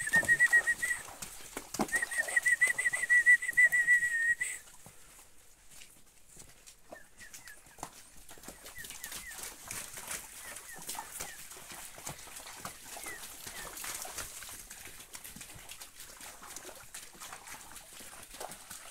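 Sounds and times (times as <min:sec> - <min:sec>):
hooves splashing through muddy water: 0:00.0 - 0:18.9.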